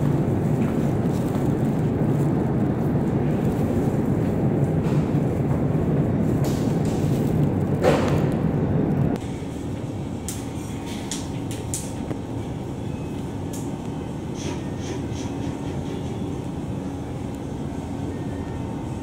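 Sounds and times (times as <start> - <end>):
ferry engines rumbling: 0.0 - 19.0.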